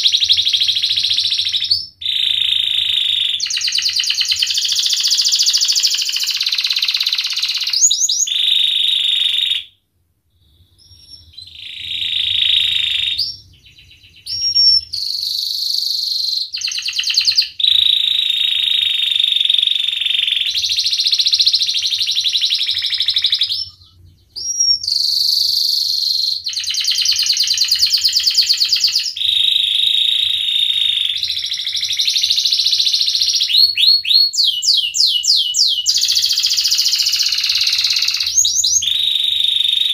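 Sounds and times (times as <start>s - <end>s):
canary singing trills: 0.0s - 9.7s, 10.4s - 39.9s.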